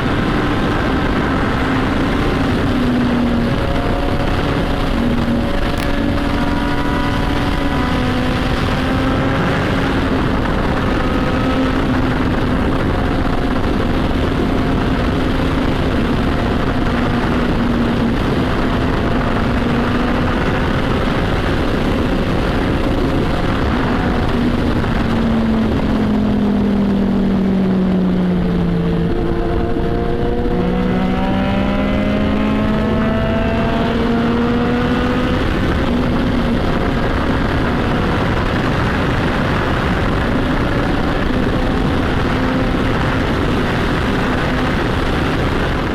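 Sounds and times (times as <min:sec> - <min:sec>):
motorcycle engine and exhaust: 0:00.0 - 0:45.9
wind noise on microphone: 0:00.0 - 0:45.9.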